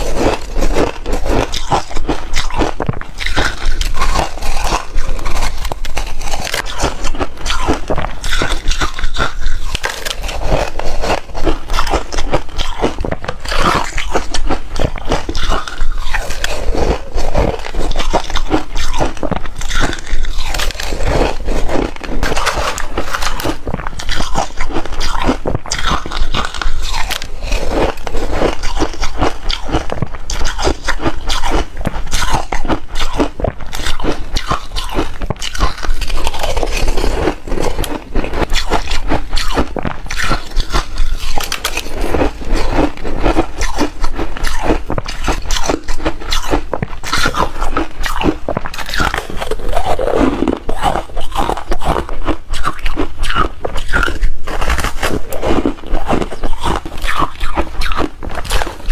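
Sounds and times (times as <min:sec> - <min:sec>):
teeth crunching ice: 0:00.0 - 0:58.9.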